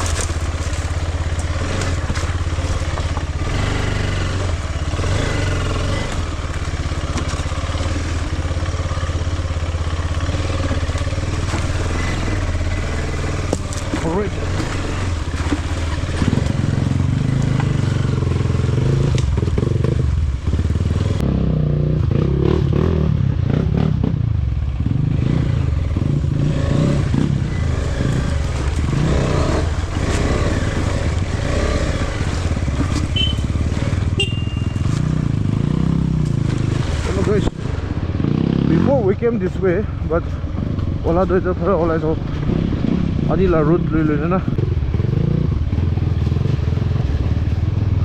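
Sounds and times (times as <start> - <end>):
motorcycle clattering over bumps: 0.0 - 21.3, 24.8 - 48.0
motorcycle engine running: 0.0 - 48.0.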